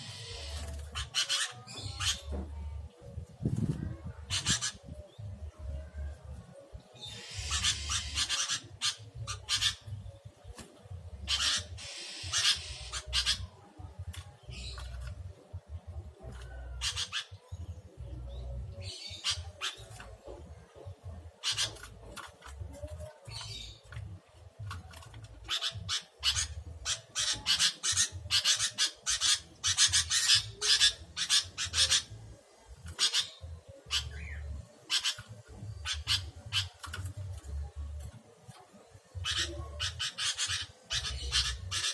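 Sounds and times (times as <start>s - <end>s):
bulbuls chattering calls: 0.0s - 2.6s, 3.3s - 6.2s, 6.9s - 41.9s.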